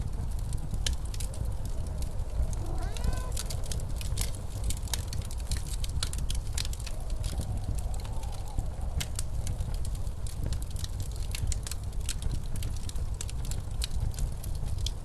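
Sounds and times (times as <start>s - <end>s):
blizzard wind rushing: 0.0s - 15.0s
wind howling: 0.0s - 15.0s
wood fire crackling and popping: 0.0s - 15.0s.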